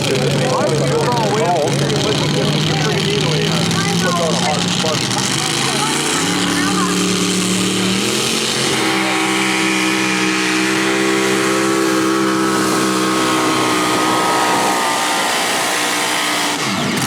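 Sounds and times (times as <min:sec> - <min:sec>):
tractor engine running at high revs: 0:00.0 - 0:17.0.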